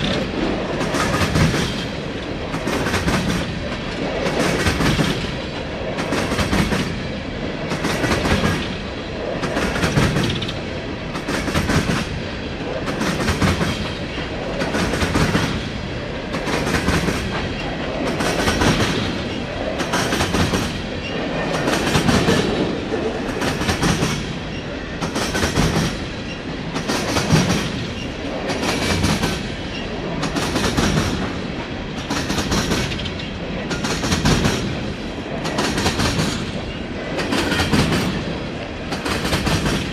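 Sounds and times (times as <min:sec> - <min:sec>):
train wheels clattering over rail: 0:00.0 - 0:39.9.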